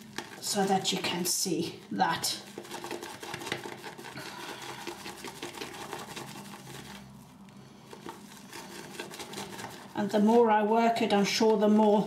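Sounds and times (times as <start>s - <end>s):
brush whipping wet lather: 0.0s - 11.9s.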